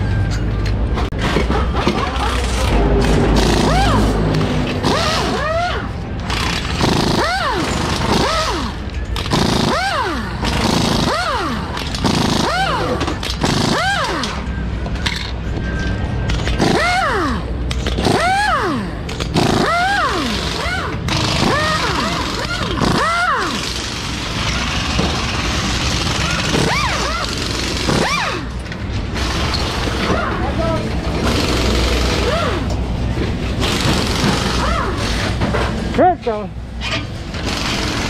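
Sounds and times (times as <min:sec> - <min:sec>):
pneumatic impact wrench whining: 0:01.1 - 0:15.3, 0:16.3 - 0:30.4, 0:31.0 - 0:35.8, 0:36.8 - 0:38.0.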